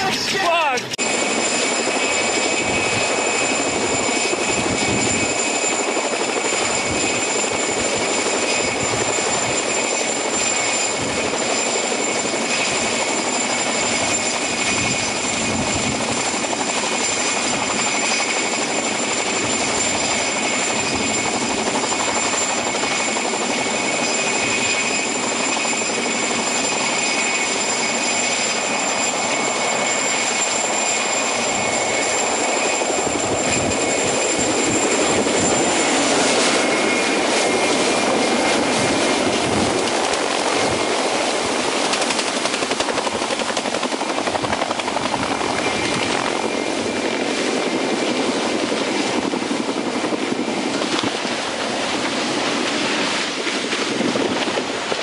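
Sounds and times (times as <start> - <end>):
helicopter hovering: 0.0 - 55.0
high turbine whine: 0.0 - 55.0.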